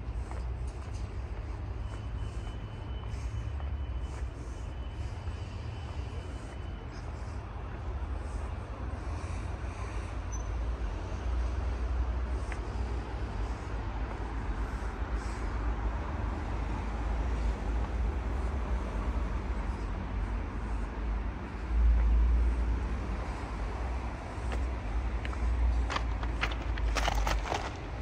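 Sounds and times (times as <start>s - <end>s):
distant road traffic hiss: 0.0s - 28.0s.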